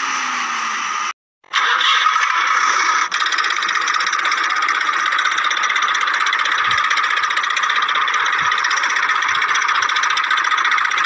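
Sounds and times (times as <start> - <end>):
toy motor whirring: 0.0 - 11.0.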